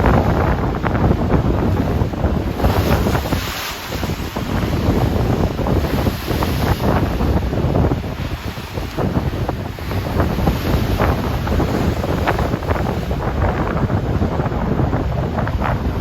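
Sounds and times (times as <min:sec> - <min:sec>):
ocean waves splashing: 0:00.0 - 0:16.0
wind rumble on microphone: 0:00.0 - 0:16.0.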